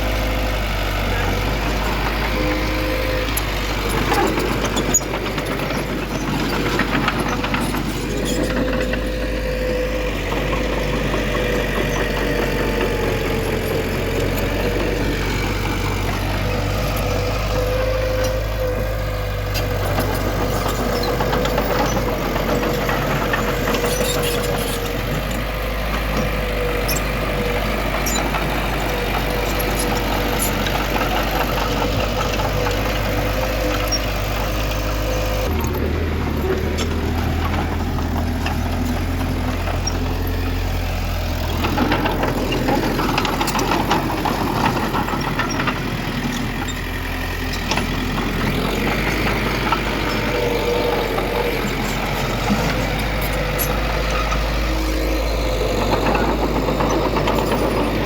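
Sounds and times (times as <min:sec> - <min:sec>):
diesel engine of heavy machinery: 0:00.0 - 0:58.0.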